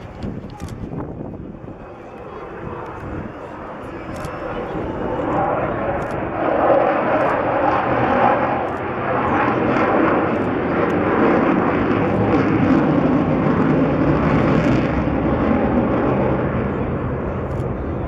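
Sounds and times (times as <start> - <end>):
jet aircraft flying past: 0.0 - 18.0.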